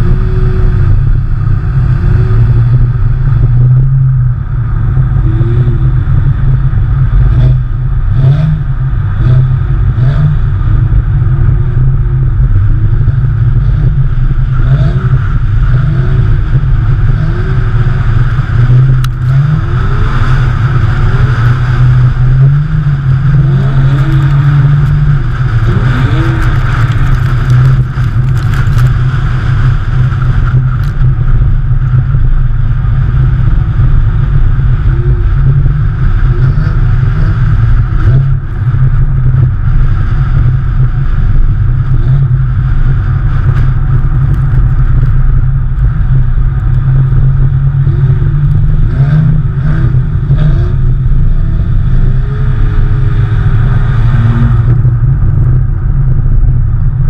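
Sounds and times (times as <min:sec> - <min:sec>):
car engines revving: 0:00.0 - 0:57.0
loud low rumble: 0:00.0 - 0:57.0.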